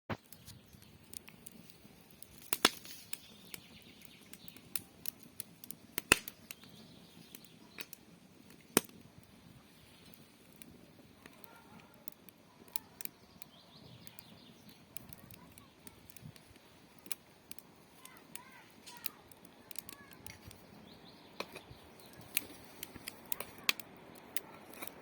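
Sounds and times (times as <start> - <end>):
faint birds chirping: 0.1 - 24.7
firewood crackling and popping: 0.1 - 25.0.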